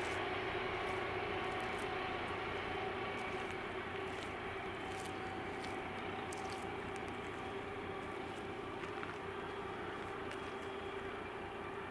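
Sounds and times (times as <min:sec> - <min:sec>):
distant vehicle rumble: 0:00.0 - 0:11.9
faint humming tone: 0:00.0 - 0:11.9.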